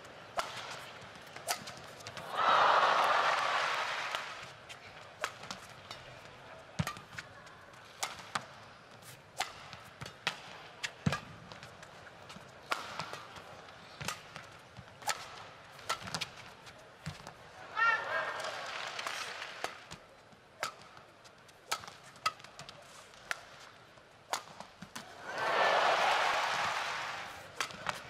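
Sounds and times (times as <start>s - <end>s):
rackets hitting shuttlecock: 0.3s - 2.4s, 5.2s - 20.0s, 20.6s - 25.4s, 26.4s - 28.0s.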